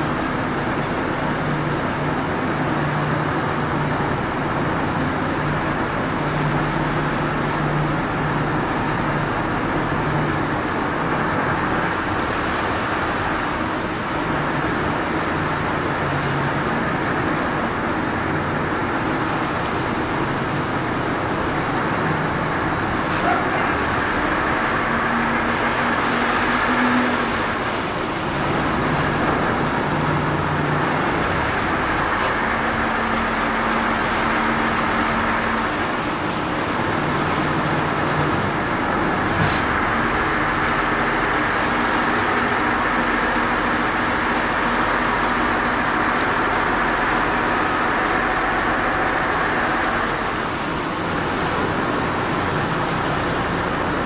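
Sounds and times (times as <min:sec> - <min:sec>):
propellers churning water: 0:00.0 - 0:54.0
ship engines droning: 0:00.0 - 0:54.0.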